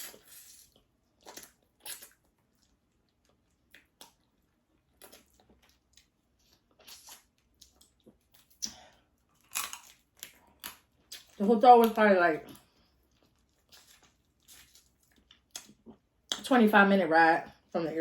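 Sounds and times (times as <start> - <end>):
chewing and wet squishy bites: 0.8 - 16.4.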